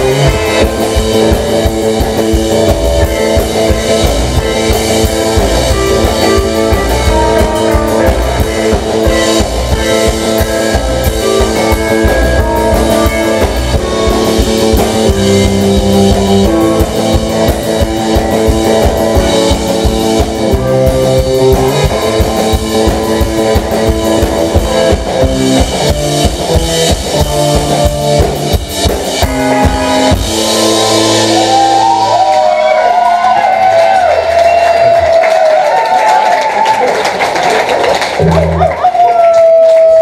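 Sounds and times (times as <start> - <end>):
drum kit beat: 0.0 - 36.2
electric guitars: 0.0 - 36.7, 38.0 - 40.0.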